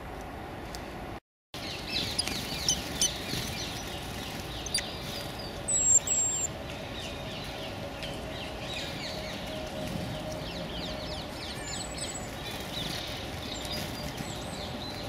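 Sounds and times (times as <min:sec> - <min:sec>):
songbirds chirping: 0:01.6 - 0:15.0.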